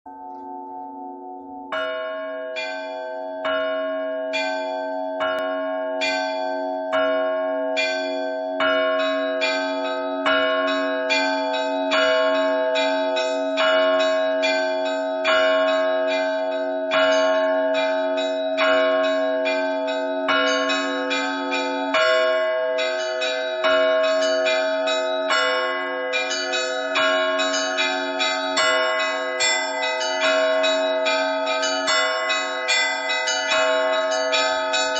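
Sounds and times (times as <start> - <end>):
hum of large bells: 0.1 - 34.9
small church bells ringing rhythmically: 0.1 - 34.9.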